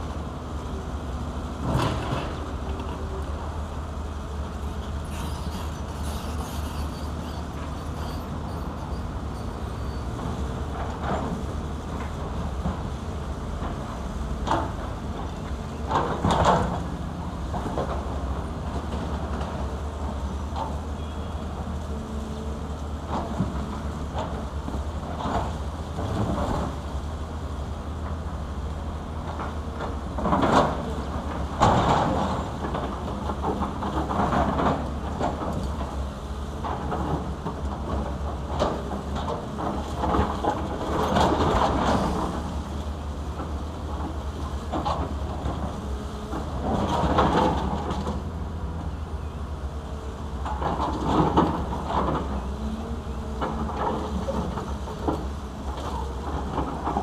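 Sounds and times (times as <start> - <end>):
excavator diesel engines droning: 0.0 - 57.0.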